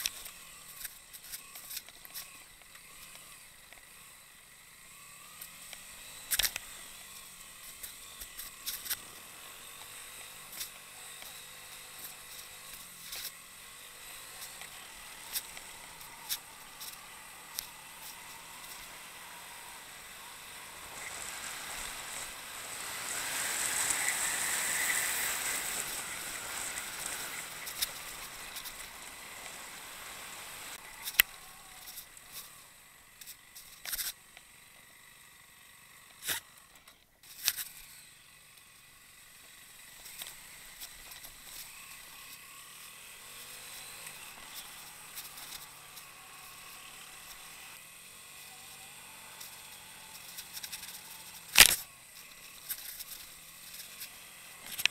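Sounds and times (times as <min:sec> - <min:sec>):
motorcycle engine running: 0:00.0 - 0:54.9
tyres on dirt track: 0:00.0 - 0:54.9
wind: 0:00.0 - 0:54.9.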